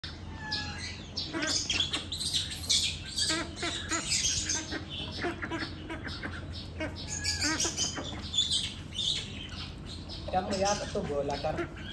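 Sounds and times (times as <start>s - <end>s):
ducks quacking: 0.1s - 11.9s.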